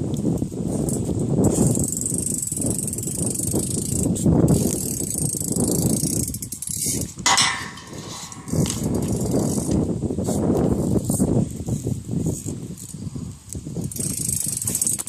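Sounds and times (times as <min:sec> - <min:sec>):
bike rolling rumble: 0:00.0 - 0:15.0.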